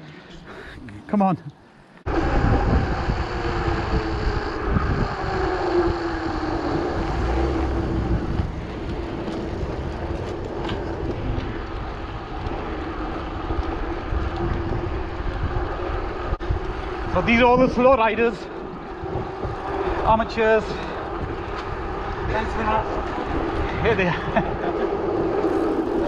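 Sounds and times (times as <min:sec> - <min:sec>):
bicycle rolling on tarmac: 0:02.0 - 0:26.0
wind buffeting microphone: 0:02.0 - 0:26.0.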